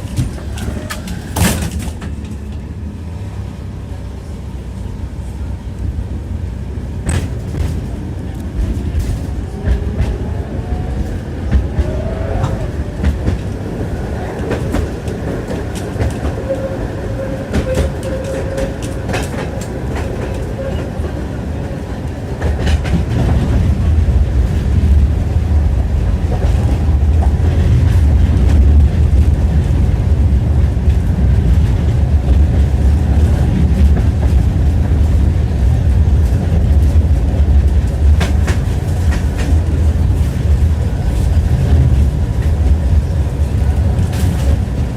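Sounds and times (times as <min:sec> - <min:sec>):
tram rumble: 0:00.0 - 0:44.9
tram wheels clattering over rail joints: 0:00.0 - 0:44.9.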